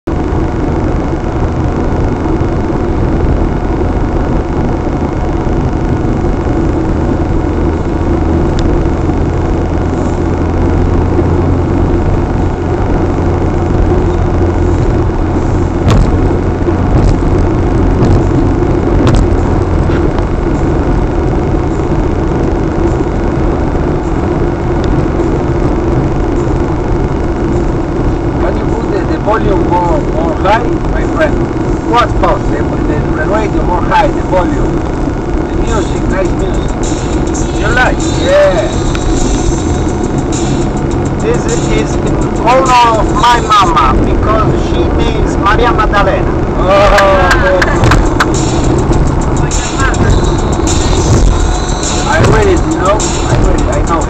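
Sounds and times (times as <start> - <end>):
car engine at highway speed: 0.0 - 54.0
tyre road noise: 0.0 - 54.0.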